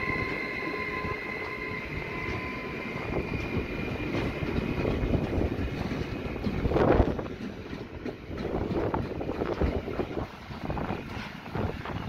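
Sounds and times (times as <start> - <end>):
train wheels rumbling and clacking: 0.0 - 12.0.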